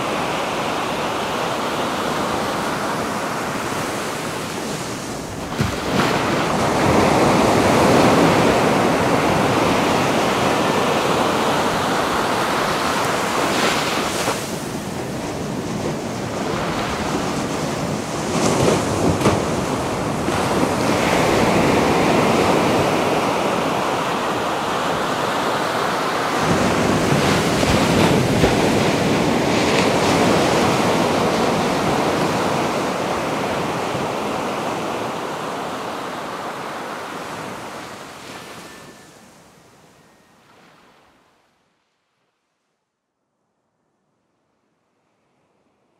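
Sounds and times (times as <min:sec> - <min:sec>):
ocean waves breaking on beach: 0:00.0 - 0:41.2.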